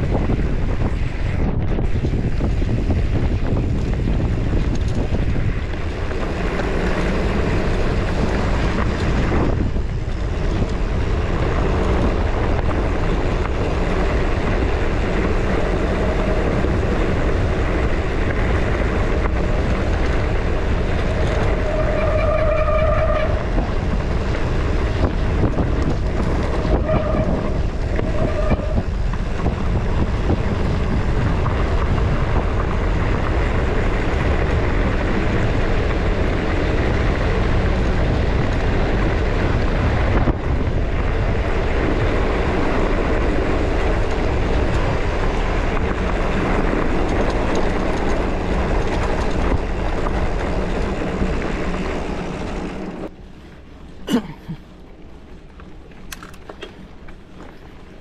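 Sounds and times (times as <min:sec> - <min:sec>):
tyres rolling on road: 0:00.0 - 0:58.0
wind rumble on microphone: 0:00.0 - 0:58.0.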